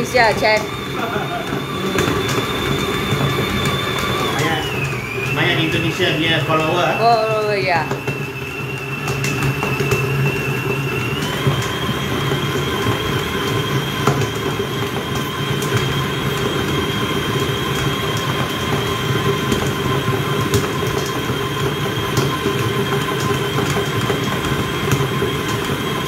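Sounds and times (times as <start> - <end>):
stand mixer running: 0.0 - 26.0.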